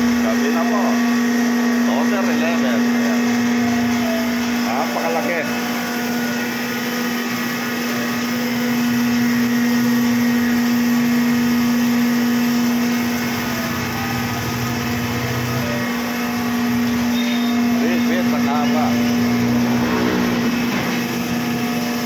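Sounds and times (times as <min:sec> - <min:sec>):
shop machinery humming: 0:00.0 - 0:22.0.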